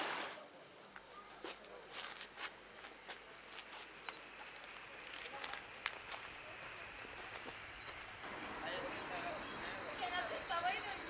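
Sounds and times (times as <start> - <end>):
cricket chirping: 1.3 - 11.0
high insect hiss: 1.3 - 11.0.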